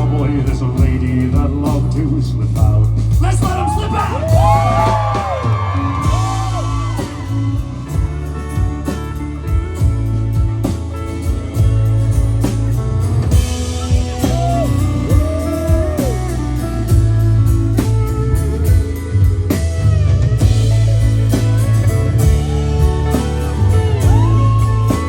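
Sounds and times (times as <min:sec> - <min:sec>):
bass guitar: 0:00.0 - 0:25.0
drums: 0:00.0 - 0:25.0
lead guitar bending notes: 0:04.3 - 0:25.0.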